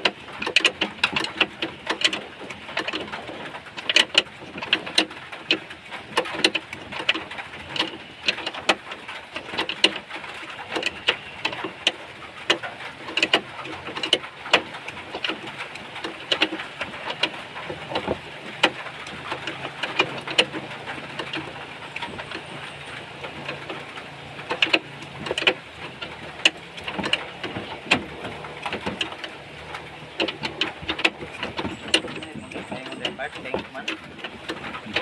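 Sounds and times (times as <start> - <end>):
sharp clicks and knocks: 0.0 - 35.0.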